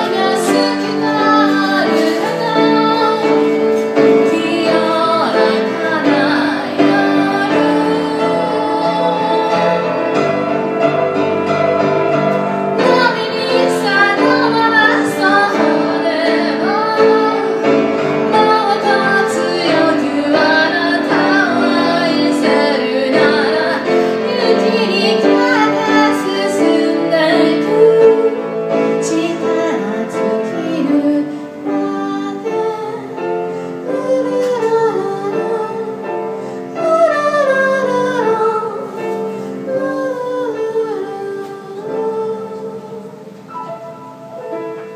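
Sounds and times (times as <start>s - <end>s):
woman singing: 0.0s - 11.8s, 12.7s - 43.5s
piano chords: 0.0s - 44.9s.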